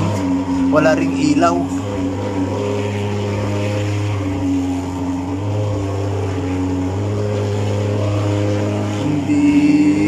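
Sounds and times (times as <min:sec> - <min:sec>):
fogging machine engine drone: 0:00.0 - 0:10.0.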